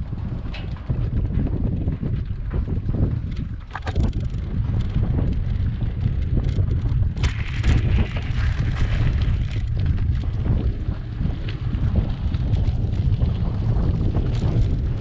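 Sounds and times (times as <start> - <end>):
small clicks and rattles: 0.0 - 15.0
wind buffeting microphone: 0.0 - 15.0.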